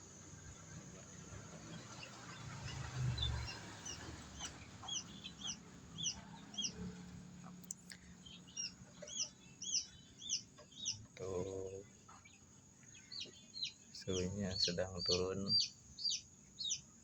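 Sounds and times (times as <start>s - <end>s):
chicks peeping: 0.6s - 17.0s.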